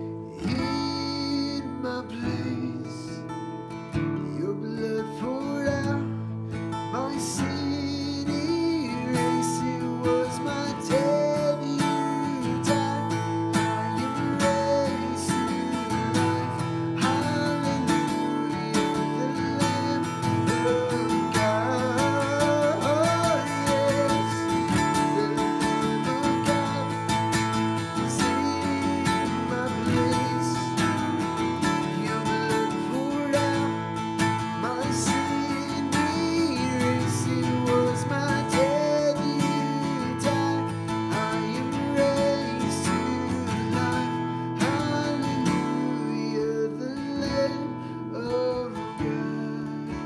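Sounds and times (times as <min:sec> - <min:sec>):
slow acoustic guitar music: 0:00.0 - 0:50.0.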